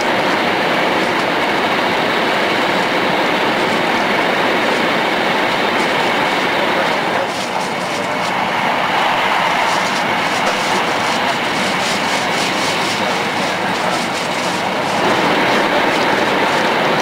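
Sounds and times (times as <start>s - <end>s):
train rushing rumble: 0.0s - 17.0s.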